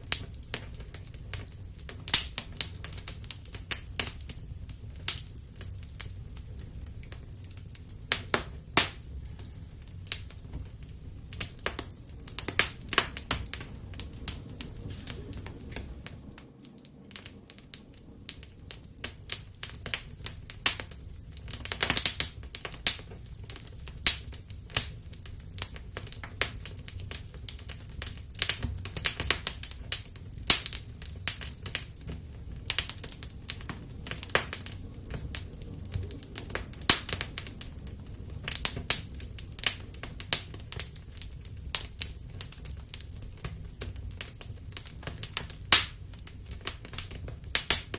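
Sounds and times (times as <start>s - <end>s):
low rumble of flames: 0.0s - 47.9s
wood fire crackling and popping: 0.0s - 47.9s.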